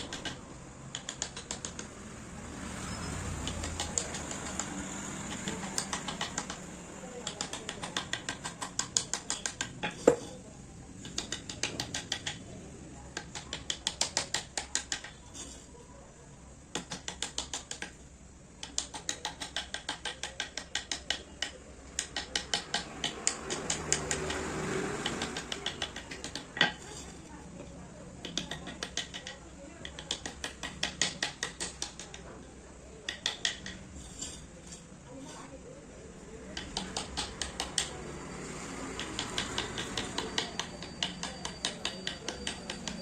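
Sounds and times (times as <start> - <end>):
mallet tapping chisel: 0.0 - 2.0, 3.3 - 10.4, 11.0 - 15.7, 16.7 - 18.0, 18.6 - 35.5, 36.1 - 43.0.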